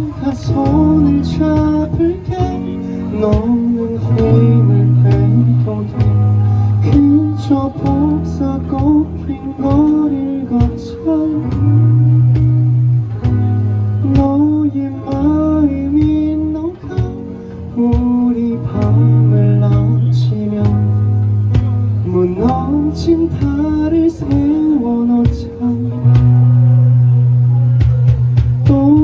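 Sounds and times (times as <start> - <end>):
bass notes: 0.0 - 29.0
gliding melodic lead line: 0.0 - 29.0
strummed acoustic guitar: 0.0 - 29.0.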